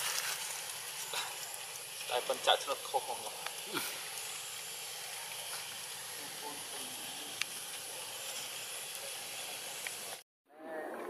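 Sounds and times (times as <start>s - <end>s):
outdoor background hiss: 0.0s - 10.2s.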